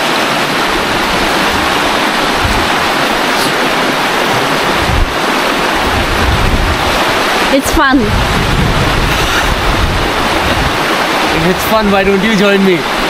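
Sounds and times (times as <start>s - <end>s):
river water rushing over rock: 0.0s - 13.0s
low rumbles: 0.7s - 11.6s.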